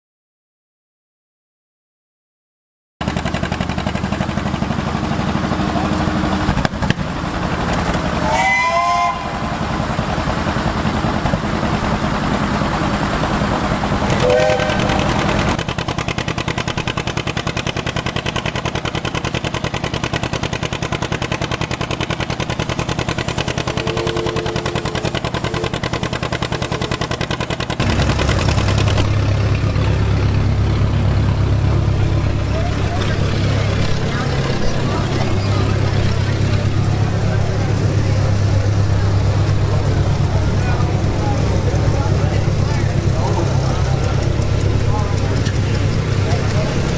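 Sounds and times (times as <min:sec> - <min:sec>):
deep loud engine: 0:03.0 - 0:46.9
tractor engines running: 0:03.0 - 0:46.9.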